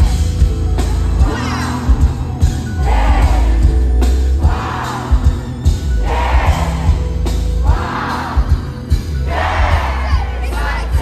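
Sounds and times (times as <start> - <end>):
live pop music with heavy bass: 0.0 - 11.0.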